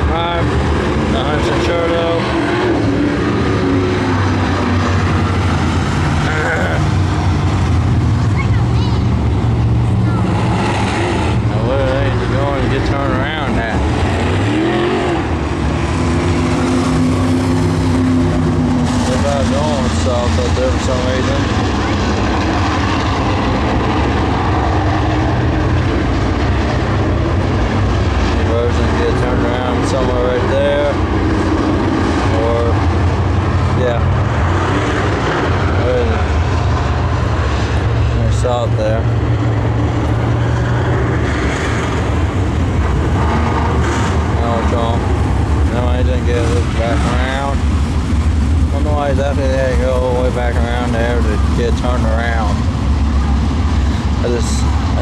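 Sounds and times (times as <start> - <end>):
race car engines droning: 0.0 - 55.0.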